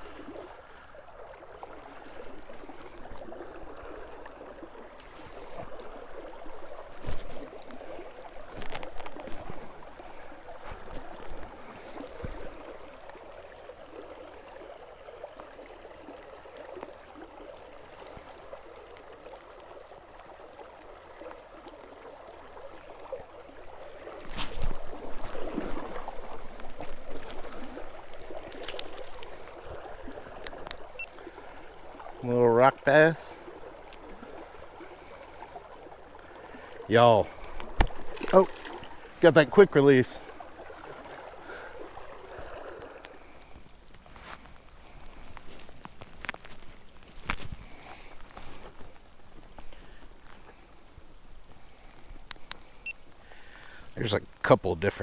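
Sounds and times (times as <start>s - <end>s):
water splashing: 0.0s - 50.7s
river water over shallows: 0.0s - 55.0s.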